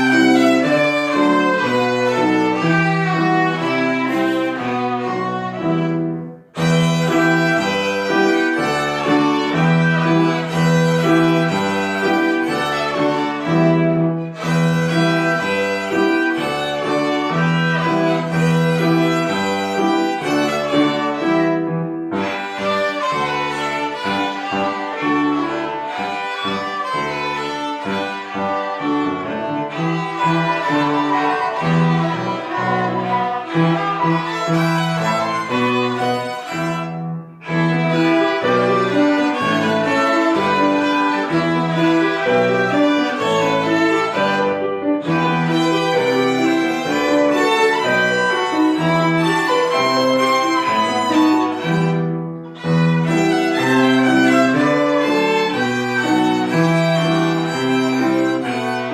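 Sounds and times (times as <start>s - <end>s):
violins playing in harmony: 0.0s - 58.9s.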